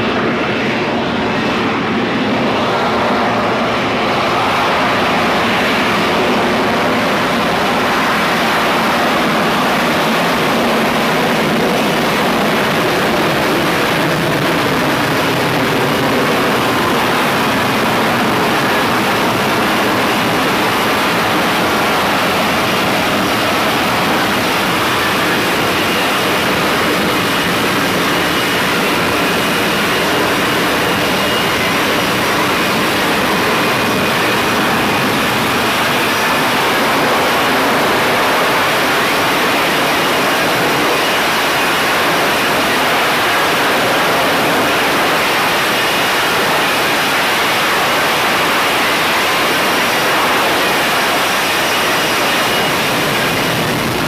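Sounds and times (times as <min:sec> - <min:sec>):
faint high whine: 0:00.0 - 0:54.0
jet engine roaring: 0:00.0 - 0:54.0.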